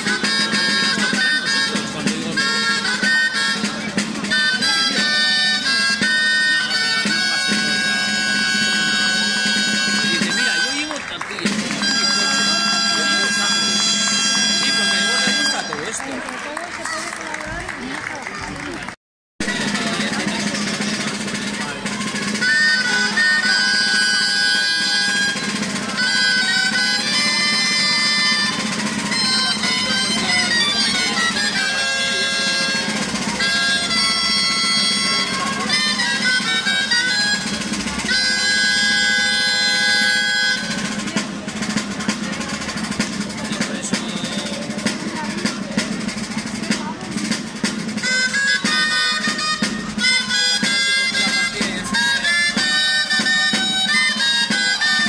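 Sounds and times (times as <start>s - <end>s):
reed pipes melody: 0.0s - 17.2s, 19.4s - 55.0s
bagpipe folk dance music: 0.0s - 55.0s.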